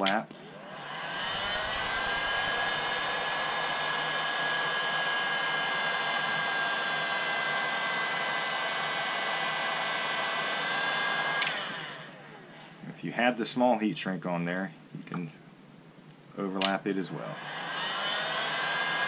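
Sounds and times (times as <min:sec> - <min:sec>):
heat gun blowing with whine: 0:00.0 - 0:12.9, 0:16.6 - 0:19.0.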